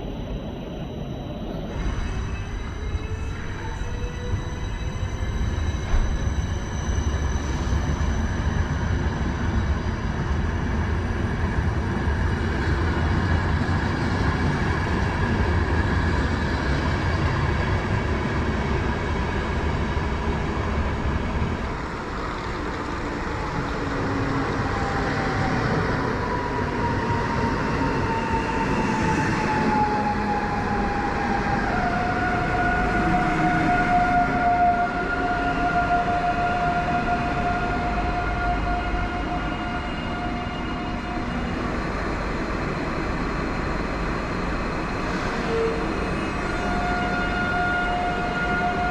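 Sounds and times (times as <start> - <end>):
train rumbling: 0.0 - 48.9.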